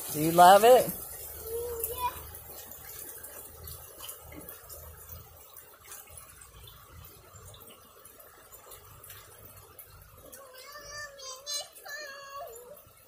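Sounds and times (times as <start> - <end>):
rain hissing: 0.0 - 5.6, 6.3 - 13.0
sharp drips: 0.0 - 13.0.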